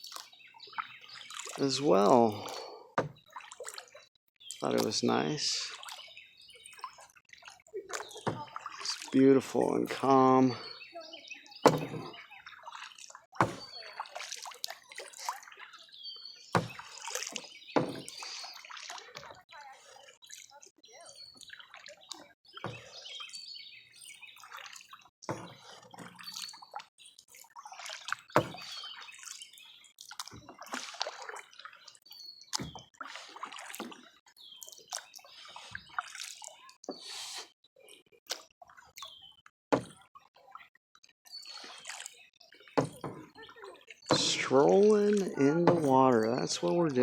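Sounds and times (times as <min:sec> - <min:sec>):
water dripping and splashing: 0:00.0 - 0:37.0, 0:38.0 - 0:47.0
paddle strokes through water: 0:00.0 - 0:47.0.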